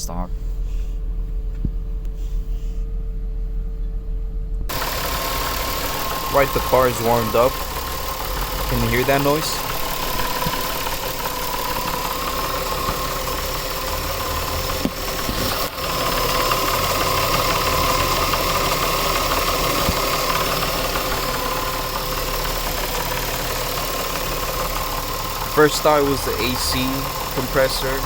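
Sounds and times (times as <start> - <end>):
engine running with grinding knock: 4.6 - 28.0.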